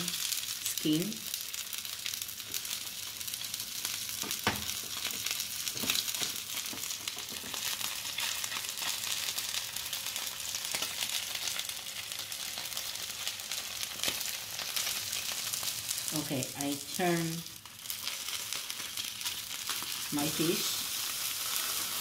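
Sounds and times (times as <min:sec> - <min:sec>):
fish sizzling in oil: 0:00.0 - 0:22.0.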